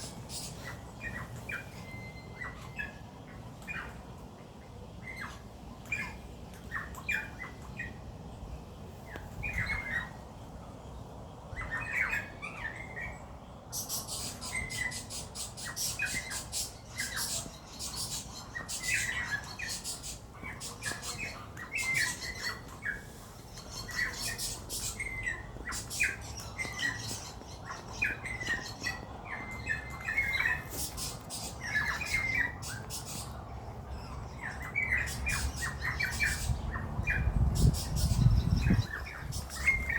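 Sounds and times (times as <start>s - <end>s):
birds squawking and chirping: 0.0s - 4.2s, 5.0s - 8.3s, 9.0s - 39.9s.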